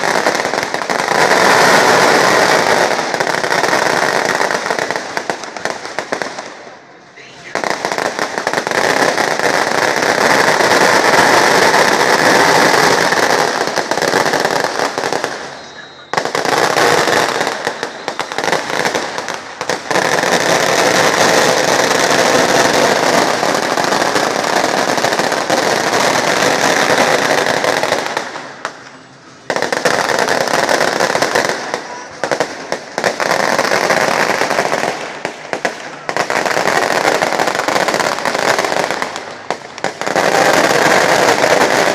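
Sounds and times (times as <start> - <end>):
fireworks crackling bangs: 0.0 - 41.9.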